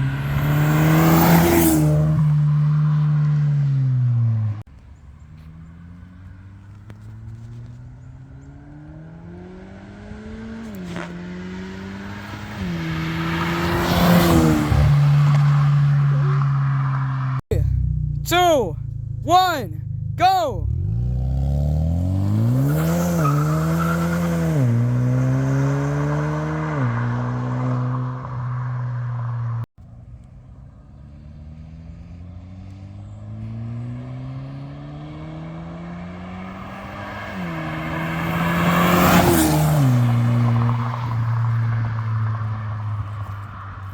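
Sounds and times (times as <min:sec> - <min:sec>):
car engine revving: 0:00.0 - 0:04.6, 0:05.4 - 0:29.6, 0:30.9 - 0:43.9.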